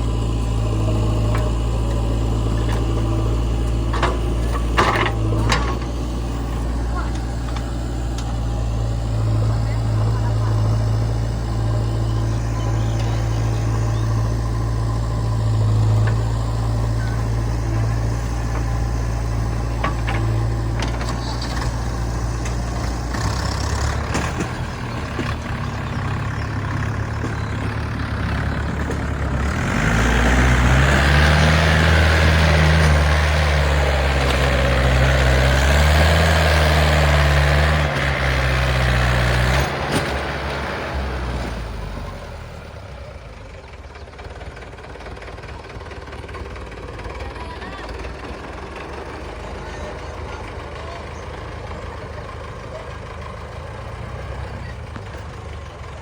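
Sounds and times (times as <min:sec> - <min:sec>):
diesel machinery engine revving: 0:00.0 - 0:56.0.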